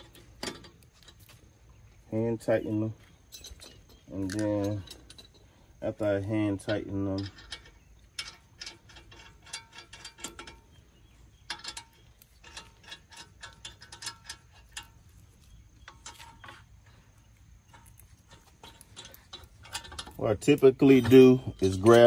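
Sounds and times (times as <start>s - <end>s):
metal nuts clicking on studs: 3.3s - 16.8s, 17.7s - 22.0s.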